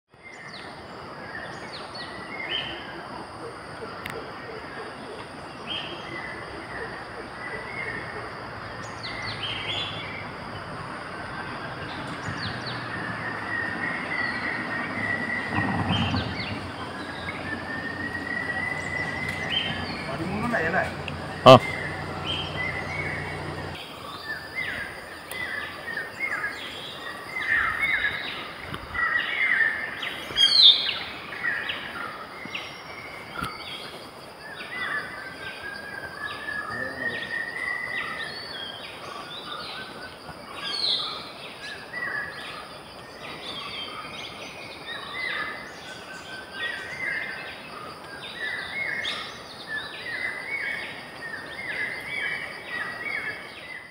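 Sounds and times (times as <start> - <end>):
birds chirping: 5.0 - 53.9.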